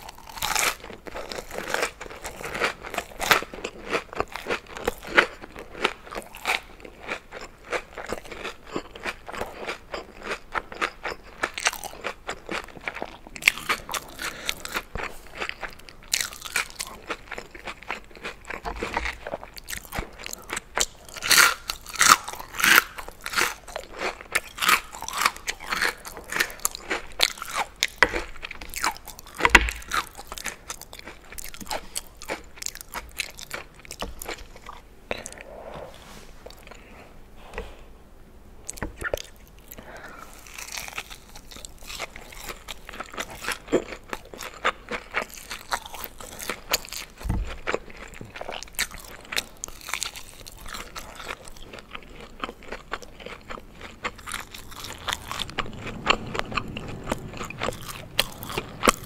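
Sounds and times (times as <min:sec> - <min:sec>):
chewing crispy fried food: 0:00.0 - 0:35.4, 0:38.6 - 0:59.0.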